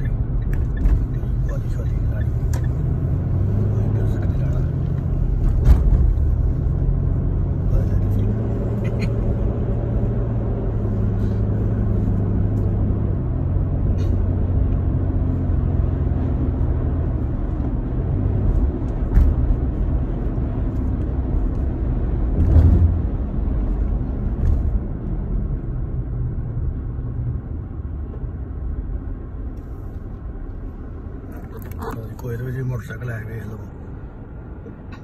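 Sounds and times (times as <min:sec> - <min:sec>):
car engine and road rumble: 0:00.0 - 0:35.0.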